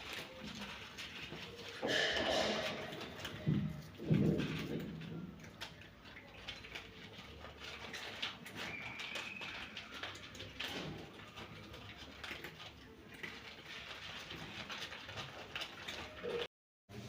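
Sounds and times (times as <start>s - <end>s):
cats crunching dry kibble: 0.0s - 16.5s.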